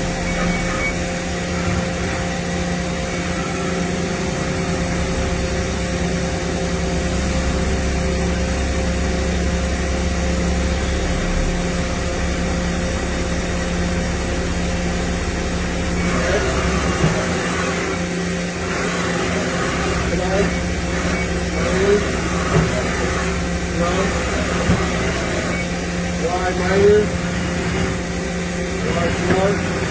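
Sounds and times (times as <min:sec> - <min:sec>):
machine mechanical hum with tones: 0:00.0 - 0:29.9.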